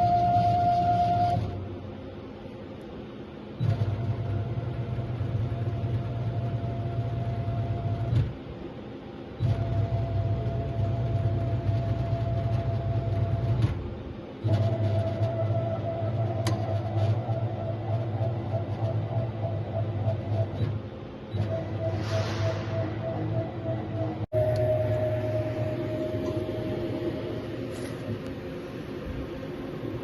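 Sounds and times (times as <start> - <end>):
drilling machine hum with high whine: 0.0 - 30.0.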